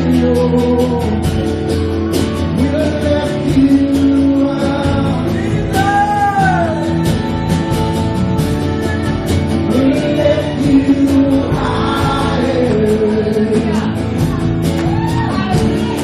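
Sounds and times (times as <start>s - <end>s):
band playing worship music: 0.0s - 16.0s
voices singing: 0.0s - 16.0s.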